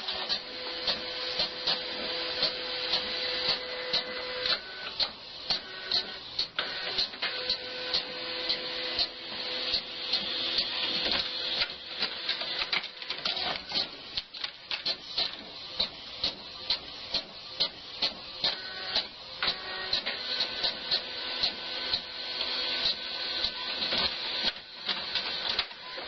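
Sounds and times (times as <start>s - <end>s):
printer whirring and clicking: 0.0s - 26.0s.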